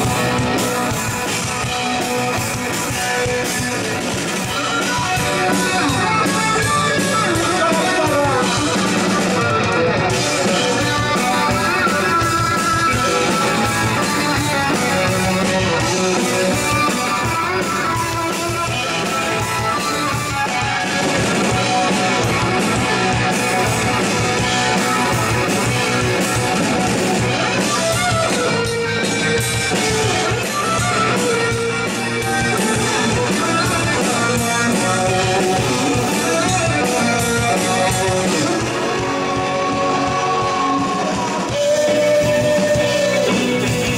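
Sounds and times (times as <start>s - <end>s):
bass guitar: 0.0s - 43.9s
drum kit: 0.0s - 43.9s
electric guitar lead lines: 0.0s - 43.9s.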